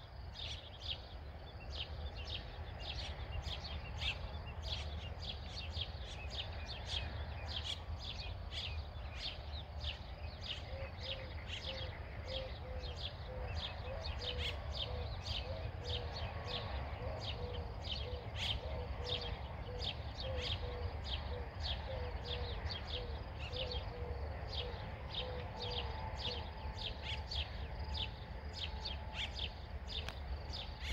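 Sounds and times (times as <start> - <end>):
birds chirping: 0.2 - 30.9.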